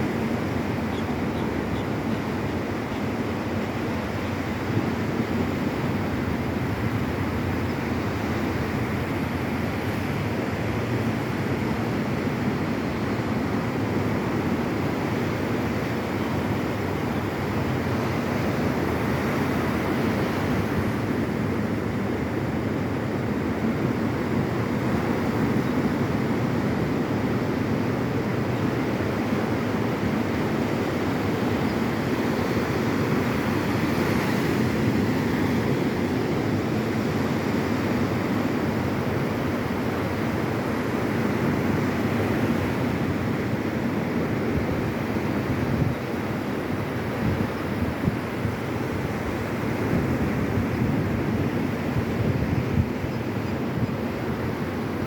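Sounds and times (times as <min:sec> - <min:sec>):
ocean surf on a beach: 0:00.0 - 0:55.0.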